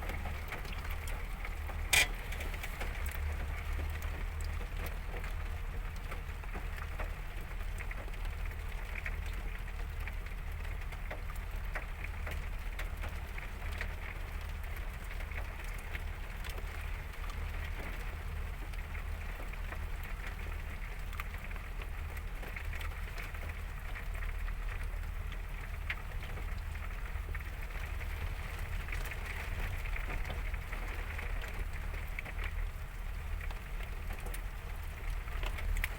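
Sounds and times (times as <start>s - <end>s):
constant low rumble: 0.0s - 35.9s.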